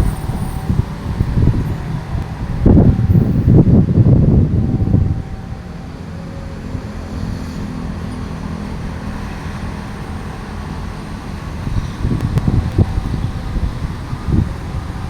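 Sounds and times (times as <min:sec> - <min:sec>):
train low rumble: 0:00.0 - 0:15.0
wind buffeting microphone: 0:00.0 - 0:15.0.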